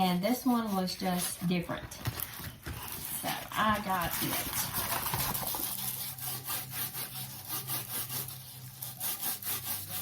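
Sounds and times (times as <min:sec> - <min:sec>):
hands rubbing plastic packaging: 0:00.3 - 0:10.0.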